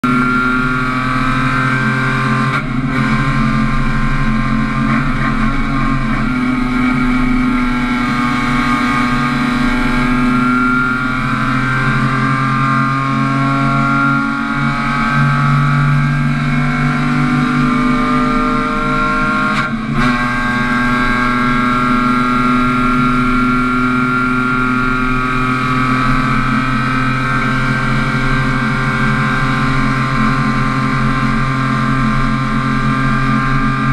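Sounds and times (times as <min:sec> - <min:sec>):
race car engine under load: 0:00.0 - 0:33.9.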